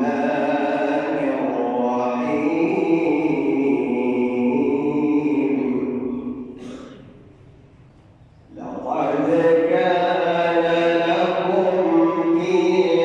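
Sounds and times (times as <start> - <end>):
man reciting melodically with echo: 0.0 - 13.0.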